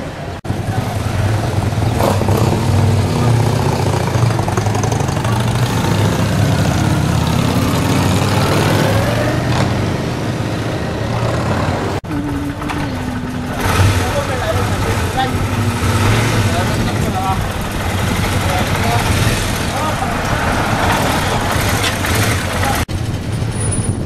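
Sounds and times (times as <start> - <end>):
motorcycles rumbling past: 0.5 - 23.5.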